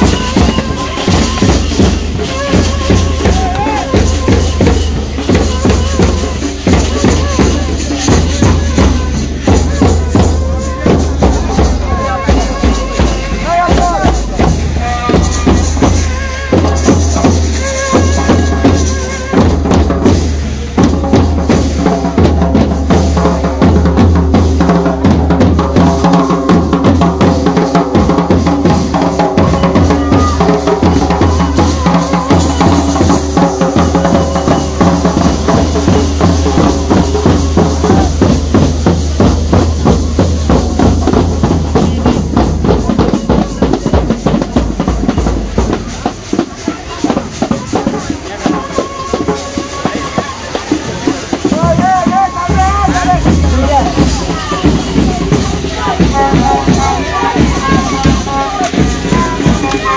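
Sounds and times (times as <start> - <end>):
hand cymbals clashing: 0.0 - 59.9
large drum beating: 0.0 - 59.9.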